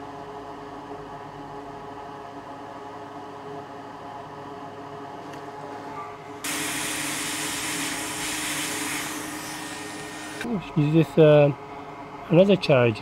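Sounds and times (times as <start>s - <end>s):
machine hum: 0.0s - 12.5s.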